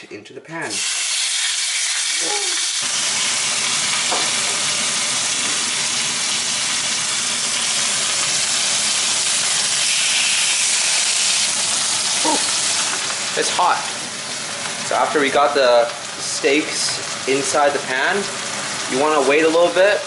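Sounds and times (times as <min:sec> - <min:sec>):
steaks sizzling in frying pan: 0:00.8 - 0:20.0.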